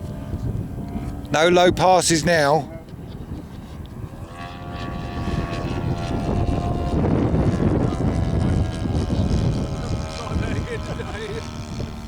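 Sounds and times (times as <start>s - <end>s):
model airplane propeller drone: 0.0s - 12.0s
wind buffeting microphone: 0.0s - 12.0s.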